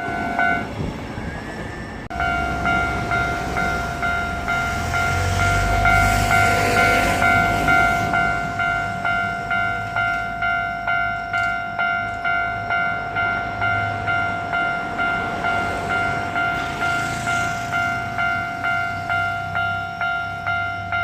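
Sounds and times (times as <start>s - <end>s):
level crossing warning bell: 0.0s - 21.0s
train rumbling past: 0.0s - 21.0s.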